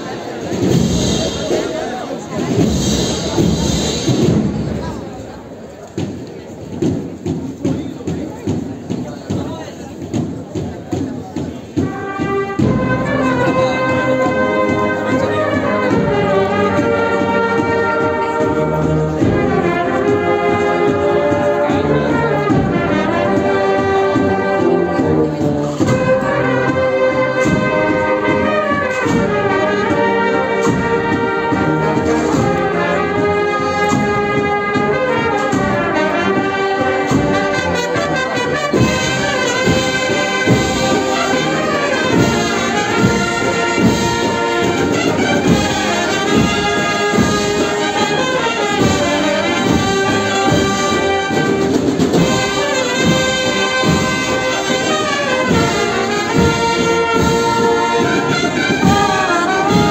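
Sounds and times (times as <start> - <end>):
brass band playing a march: 0.0 - 59.9.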